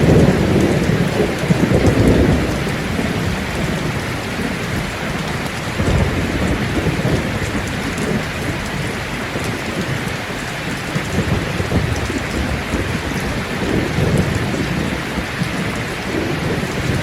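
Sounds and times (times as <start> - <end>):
heavy rain pouring: 0.0 - 17.0
low thunder rolling: 0.0 - 17.0.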